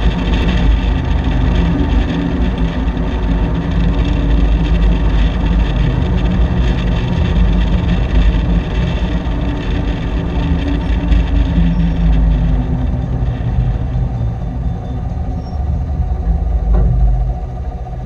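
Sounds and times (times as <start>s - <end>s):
car engine drone: 0.0s - 18.0s.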